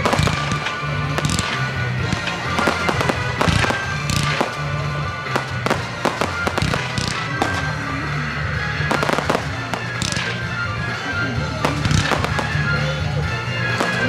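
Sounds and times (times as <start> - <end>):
fireworks bangs and crackles: 0.0 - 14.0
music with bass line: 0.0 - 14.0.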